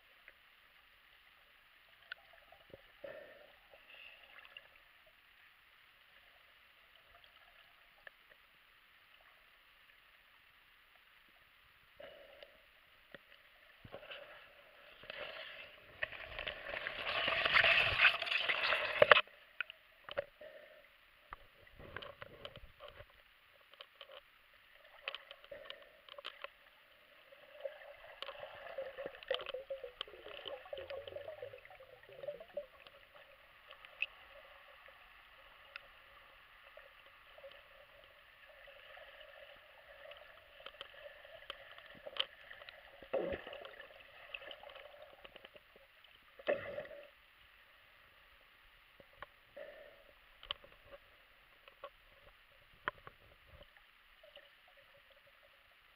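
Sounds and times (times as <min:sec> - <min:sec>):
underwater gurgling and sloshing: 0:00.0 - 0:55.9.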